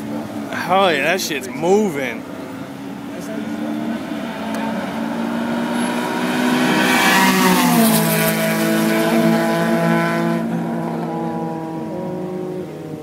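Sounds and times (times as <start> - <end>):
car speeding past: 2.2 - 13.0.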